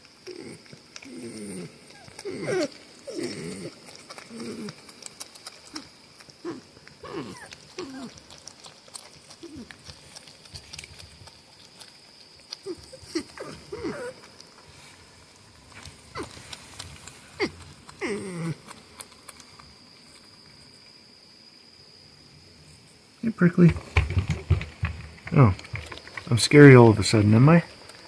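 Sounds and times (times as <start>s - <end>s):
porcupines calling: 0.0s - 19.6s, 23.2s - 28.0s.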